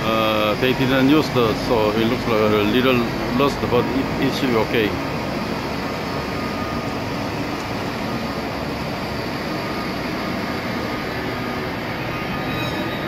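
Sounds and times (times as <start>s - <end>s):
factory rushing noise: 0.0s - 13.0s
faint high whine: 0.0s - 13.0s.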